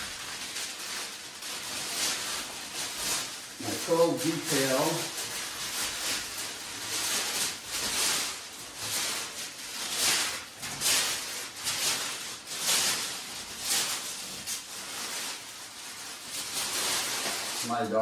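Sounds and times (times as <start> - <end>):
masking tape peeling: 0.0 - 18.0
paper crinkling: 0.0 - 18.0.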